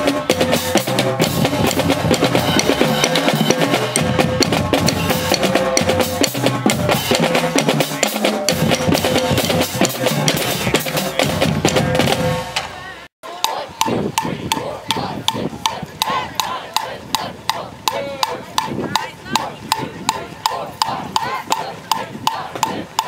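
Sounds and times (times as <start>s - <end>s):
marching drumline playing: 0.0s - 23.0s.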